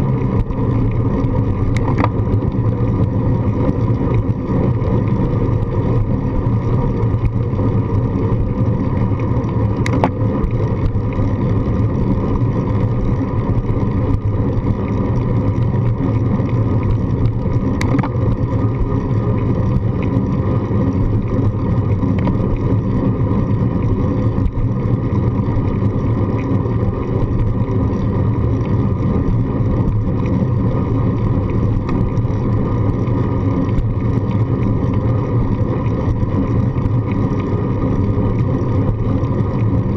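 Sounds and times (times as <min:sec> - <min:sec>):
bicycle road rumble: 0:00.0 - 0:39.9.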